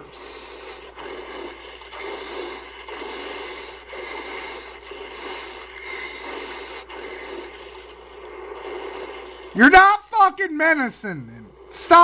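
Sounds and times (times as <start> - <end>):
rushing churning noise: 0.0 - 9.8
low mains hum: 0.0 - 12.0.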